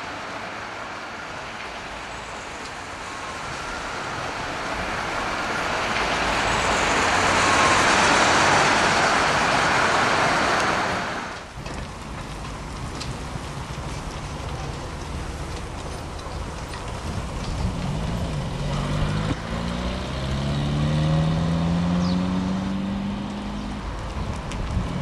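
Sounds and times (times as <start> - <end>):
road vehicle passing: 0.0 - 25.0.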